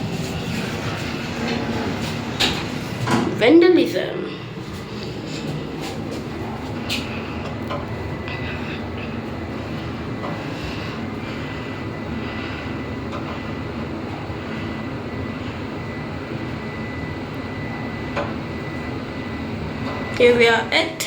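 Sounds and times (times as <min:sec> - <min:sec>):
lift running rumble: 0:00.0 - 0:21.0.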